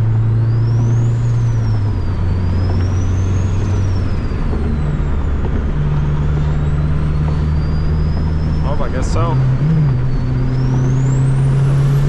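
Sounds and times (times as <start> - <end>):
car engine drone: 0.0 - 12.0
turbo whine: 0.0 - 12.0.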